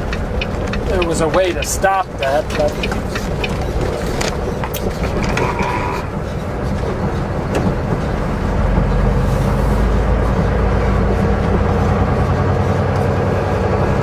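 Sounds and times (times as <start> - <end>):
road noise inside cab: 0.0 - 14.0
truck engine rumble: 0.0 - 14.0.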